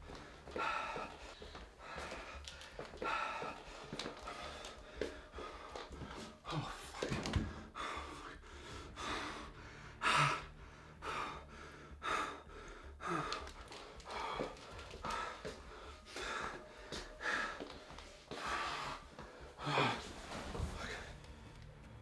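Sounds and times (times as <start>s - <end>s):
man breathing heavily: 0.0s - 22.0s.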